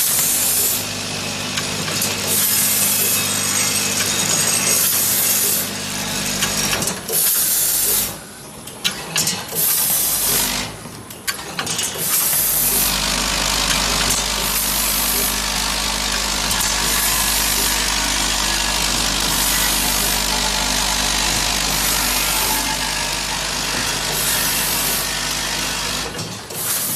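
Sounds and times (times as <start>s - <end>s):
packing machine hum: 0.0s - 8.0s, 12.0s - 26.9s.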